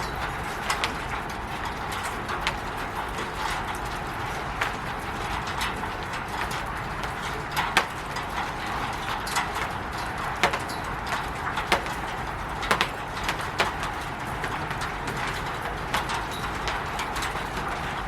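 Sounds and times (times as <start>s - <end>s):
heavy raindrops tapping: 0.0s - 18.0s
rain hissing on a roof: 0.0s - 18.0s.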